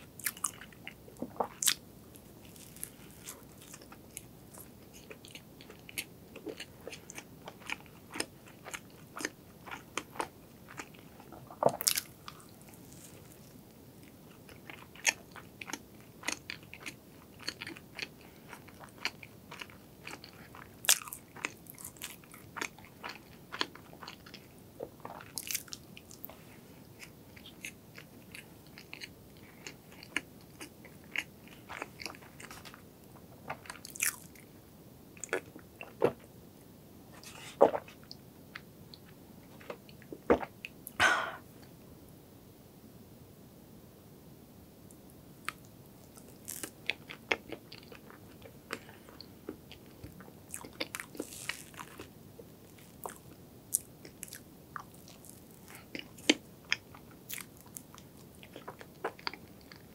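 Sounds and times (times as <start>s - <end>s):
person chewing pastry: 0.1s - 32.8s, 33.5s - 34.5s, 35.2s - 36.3s, 45.4s - 59.9s.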